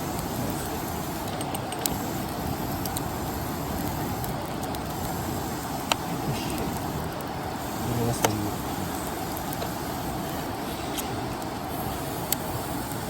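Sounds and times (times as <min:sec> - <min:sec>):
campfire crackling and popping: 0:00.0 - 0:13.0
steady rushing noise: 0:00.0 - 0:13.0.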